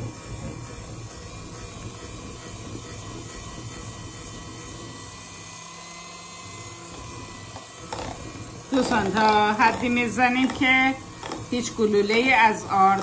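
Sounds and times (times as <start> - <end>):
electric hand mixer whisking: 0.0 - 13.0.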